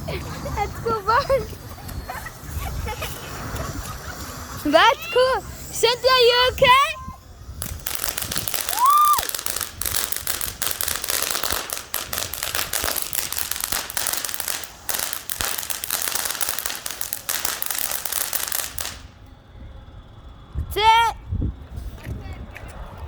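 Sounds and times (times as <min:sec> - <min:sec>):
firework crackling: 0:00.0 - 0:19.3.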